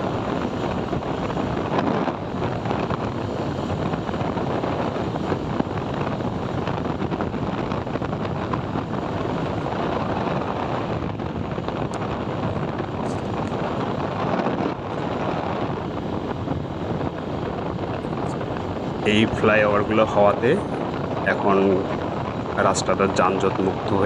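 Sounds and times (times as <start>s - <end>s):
road and traffic noise: 0.0s - 24.0s
wind rush on microphone: 0.0s - 24.0s.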